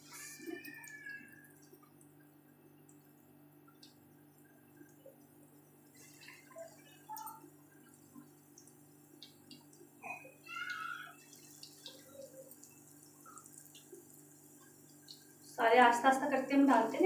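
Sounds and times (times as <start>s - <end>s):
oil crackling while deep-frying: 0.0s - 17.0s
small pops and drips: 0.1s - 15.6s.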